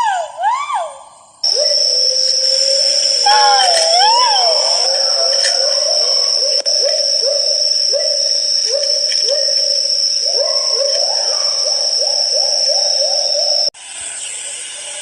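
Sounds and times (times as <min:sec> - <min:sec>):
pheasant hooting: 0:01.4 - 0:13.7
steady high-pitched whine: 0:01.4 - 0:15.0.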